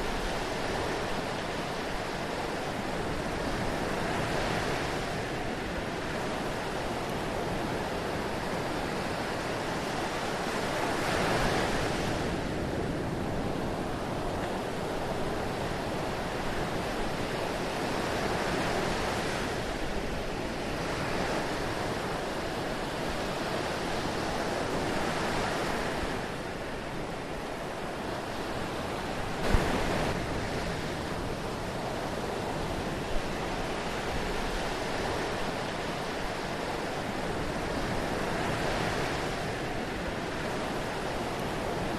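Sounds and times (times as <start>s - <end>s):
sea waves washing ashore: 0.0s - 41.9s.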